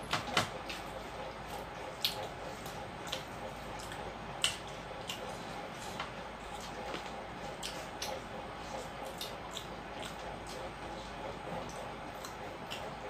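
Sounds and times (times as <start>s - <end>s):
wet squishy eating by hand: 0.1s - 13.0s.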